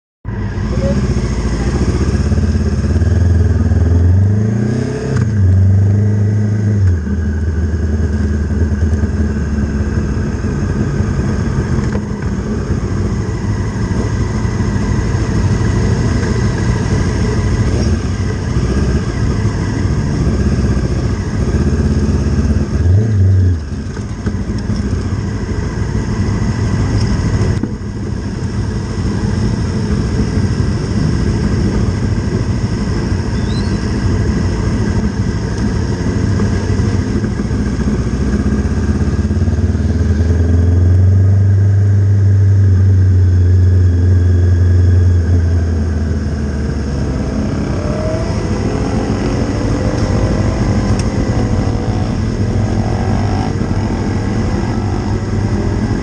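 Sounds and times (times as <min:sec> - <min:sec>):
racing motorcycle engine revving: 0:00.3 - 0:56.0.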